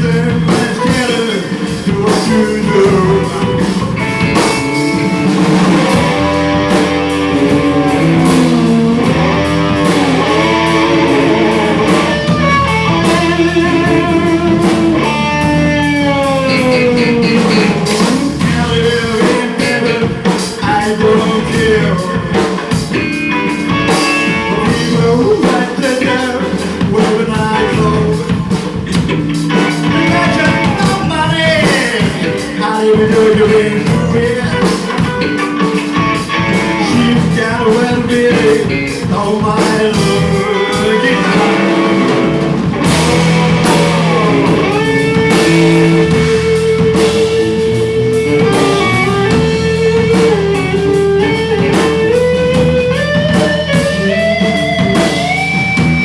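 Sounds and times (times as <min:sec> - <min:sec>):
electric guitar bending notes: 0:00.0 - 0:56.0
live blues-rock band playing: 0:00.0 - 0:56.0.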